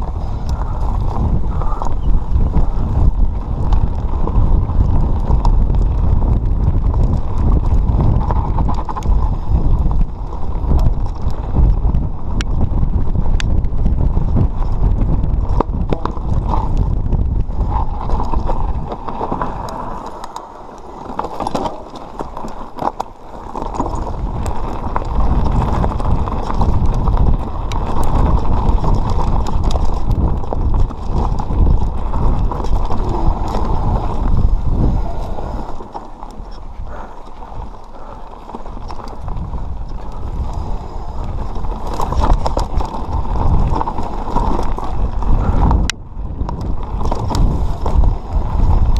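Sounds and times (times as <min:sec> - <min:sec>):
bike rattling on dirt: 0:00.0 - 0:48.9
wind on microphone: 0:00.0 - 0:48.9.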